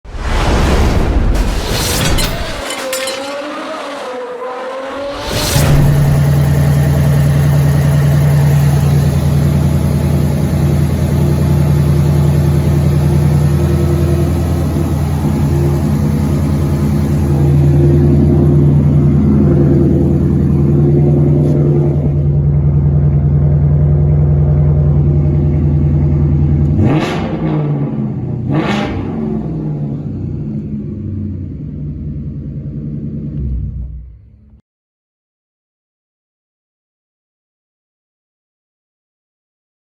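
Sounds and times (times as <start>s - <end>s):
car engine starting and revving: 0.2s - 34.6s.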